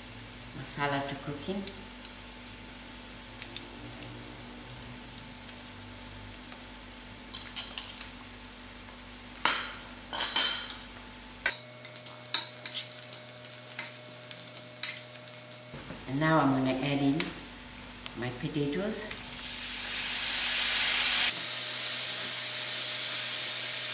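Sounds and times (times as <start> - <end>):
onions frying in oil: 0.0 - 10.1, 10.8 - 23.9.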